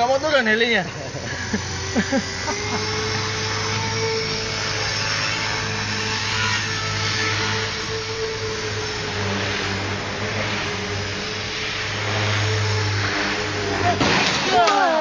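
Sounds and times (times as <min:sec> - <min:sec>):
rc helicopter motor and rotor hum: 0:00.0 - 0:15.0.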